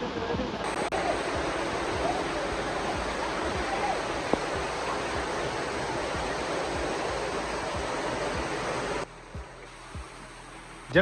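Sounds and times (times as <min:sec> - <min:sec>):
waterfall pouring: 0:00.6 - 0:11.0.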